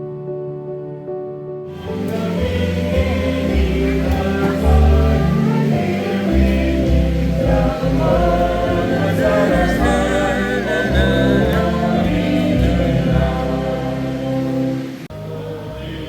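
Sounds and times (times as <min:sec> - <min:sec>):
choir singing gospel music: 0:01.7 - 0:16.0
bass line: 0:01.8 - 0:16.0.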